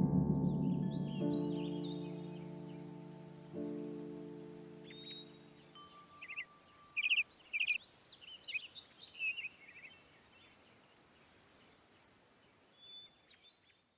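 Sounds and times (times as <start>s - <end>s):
songbirds chirping: 0.0s - 13.9s
faint hiss: 1.5s - 13.7s.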